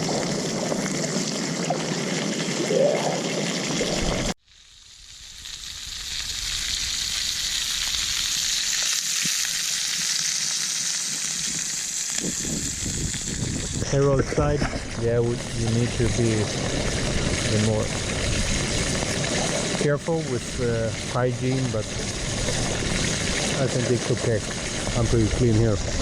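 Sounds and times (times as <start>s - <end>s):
meat sizzling in a pan: 3.5s - 26.0s.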